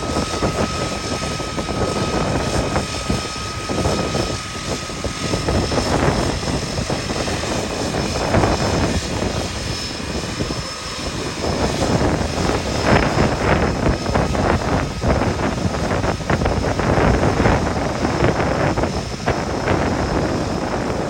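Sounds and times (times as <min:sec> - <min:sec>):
floatplane engine and propeller: 0:00.0 - 0:21.0
wind on microphone: 0:00.0 - 0:21.0.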